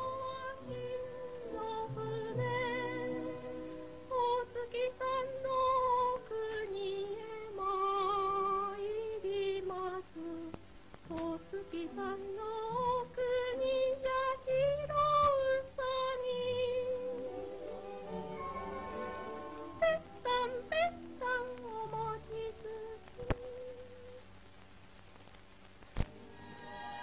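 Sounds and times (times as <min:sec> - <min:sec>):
woman singing with vibrato: 0:00.0 - 0:17.3, 0:19.7 - 0:24.2.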